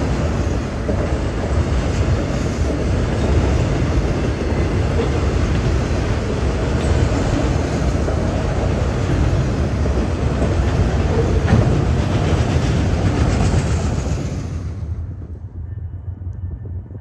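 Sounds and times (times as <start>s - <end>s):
wheels clicking over rail joints: 0.0s - 14.4s
freight train rumbling: 0.0s - 17.0s.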